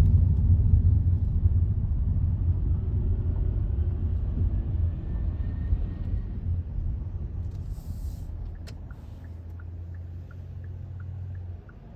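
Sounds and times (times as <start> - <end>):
car road rumble: 0.0 - 11.9.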